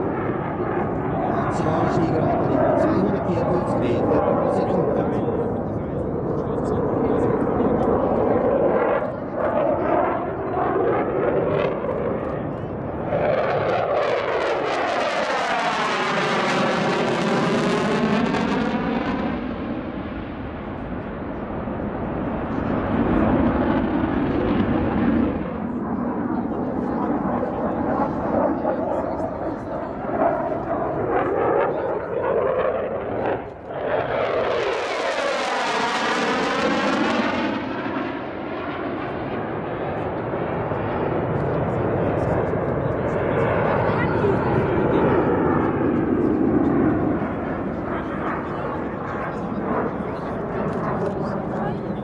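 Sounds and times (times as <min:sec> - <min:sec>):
jet fighter engine passing: 0:00.0 - 0:52.0.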